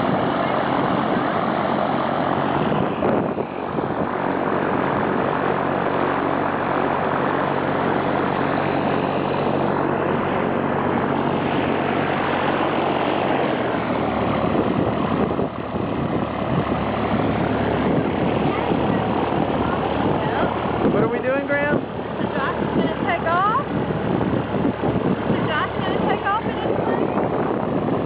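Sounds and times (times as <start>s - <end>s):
propeller airplane engine droning: 0.0s - 28.0s.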